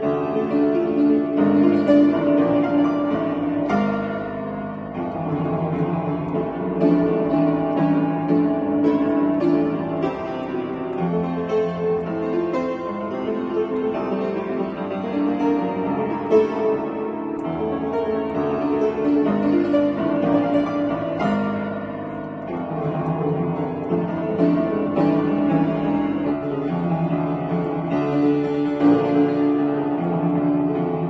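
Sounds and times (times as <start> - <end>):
upright piano playing: 0.0 - 31.0.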